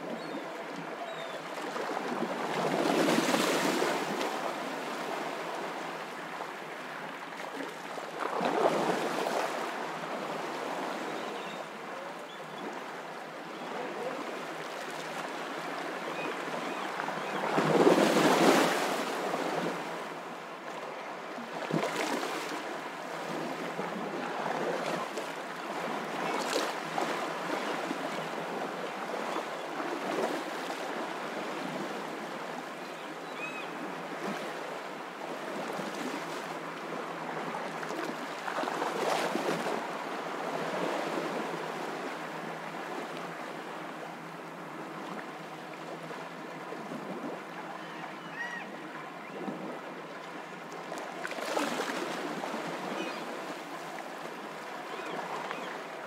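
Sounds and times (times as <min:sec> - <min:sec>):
ocean surf breaking on a beach: 0:00.0 - 0:56.0.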